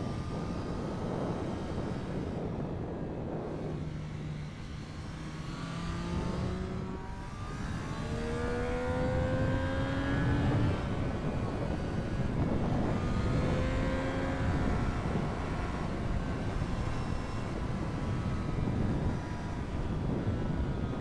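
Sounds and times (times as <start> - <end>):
motorcycle engine accelerating: 0.2 - 21.0.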